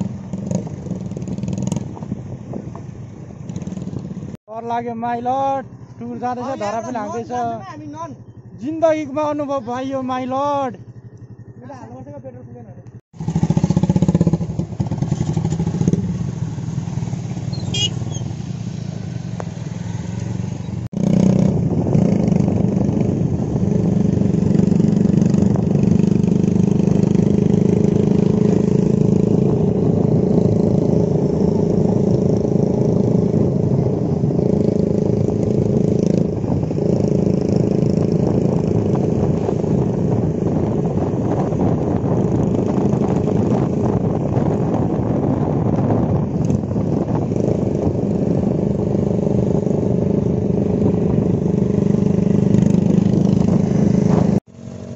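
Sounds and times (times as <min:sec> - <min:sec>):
motorcycle engines cruising: 0:00.0 - 0:54.9
road noise: 0:00.0 - 0:54.9.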